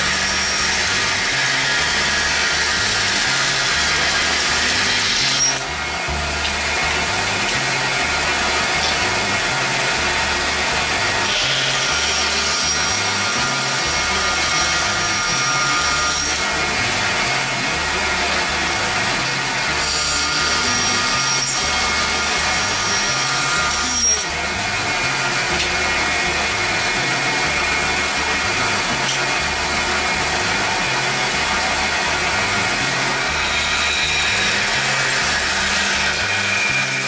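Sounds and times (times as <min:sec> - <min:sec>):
bandsaw cutting wood: 0:00.0 - 0:37.0.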